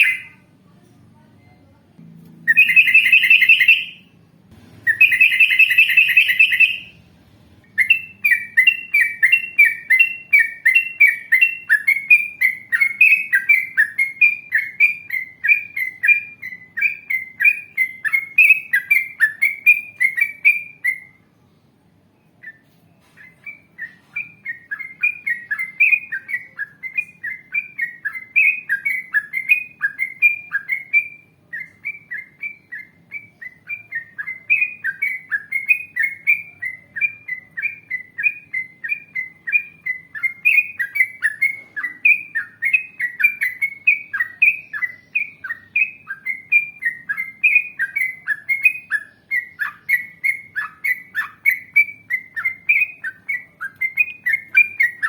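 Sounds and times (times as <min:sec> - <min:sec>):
bird chattering song: 0:00.0 - 0:00.5, 0:02.4 - 0:07.0, 0:07.7 - 0:21.4, 0:22.2 - 0:55.0.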